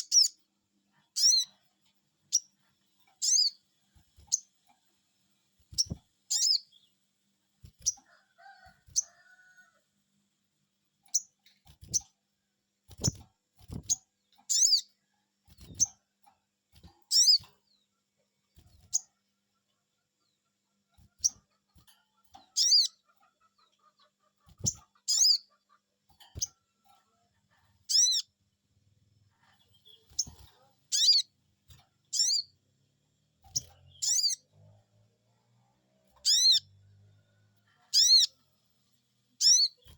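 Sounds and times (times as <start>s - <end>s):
bird chirping: 0.0s - 9.3s, 11.0s - 12.2s, 12.9s - 16.1s, 16.8s - 32.6s, 33.2s - 39.9s.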